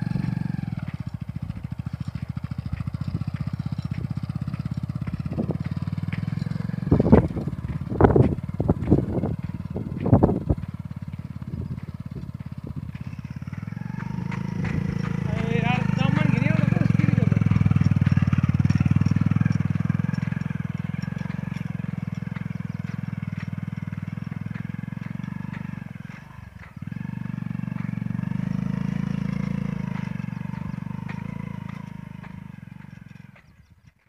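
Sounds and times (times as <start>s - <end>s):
motorcycle engine under load: 0.0s - 34.0s.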